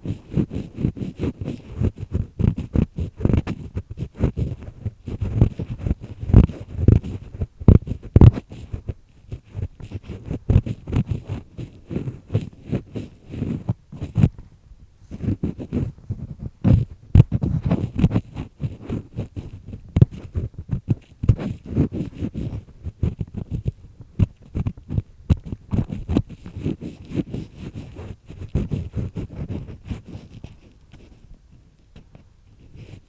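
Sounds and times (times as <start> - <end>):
ear pick scraping in ear: 0.0 - 14.4, 15.0 - 33.0.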